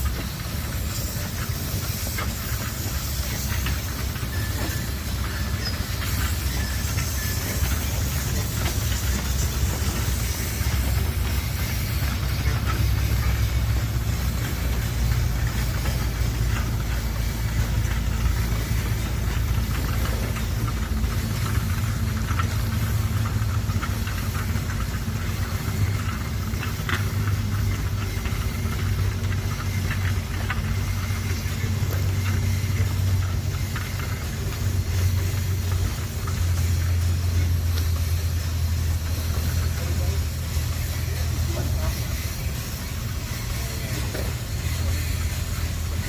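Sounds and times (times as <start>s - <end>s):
locomotive rumbling: 0.0s - 46.0s.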